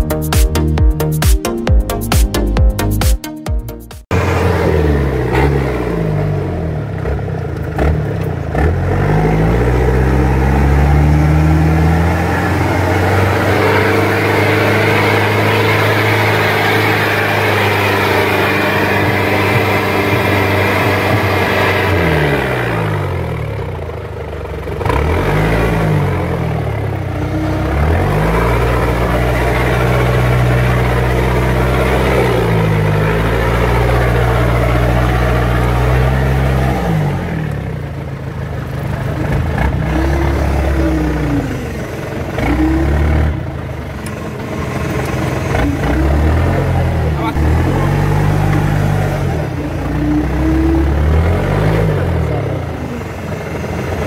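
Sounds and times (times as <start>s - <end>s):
off-road vehicle engine: 4.0s - 54.0s.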